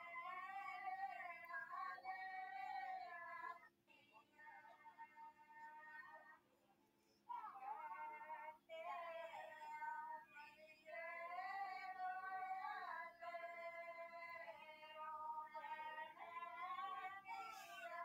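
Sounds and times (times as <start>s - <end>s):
woman singing folk song: 0.0s - 6.3s, 7.3s - 18.0s.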